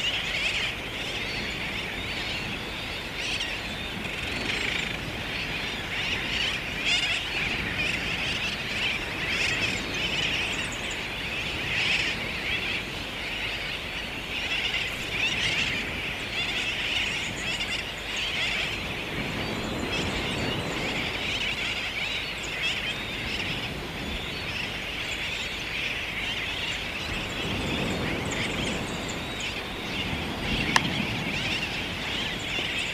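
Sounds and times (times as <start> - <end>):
chorus of birds calling: 0.0 - 32.9.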